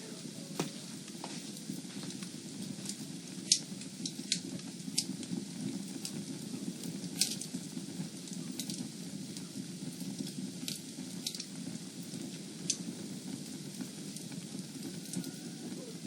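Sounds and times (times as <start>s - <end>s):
fire crackling: 0.0s - 16.0s
sharp pops of fire: 0.0s - 16.0s.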